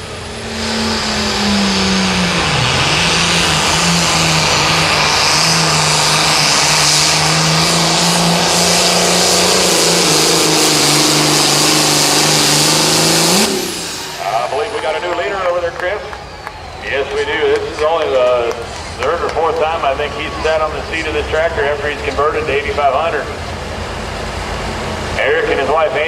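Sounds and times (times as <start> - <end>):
tractor diesel engine running flat out: 0.0 - 26.0.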